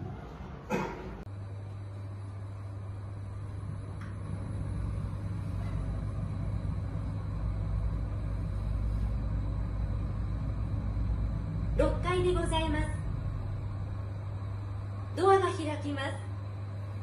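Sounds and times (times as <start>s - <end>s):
elevator humming and rumbling: 0.0s - 17.0s.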